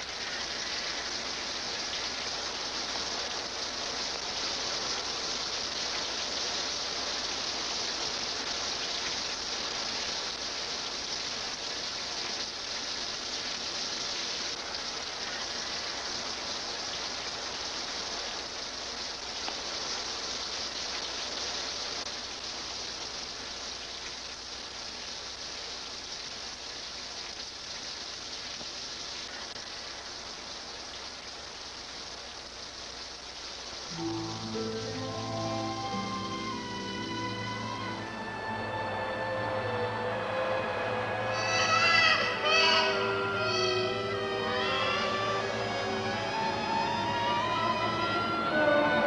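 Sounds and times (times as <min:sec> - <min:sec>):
shower water spraying: 0:00.0 - 0:49.0.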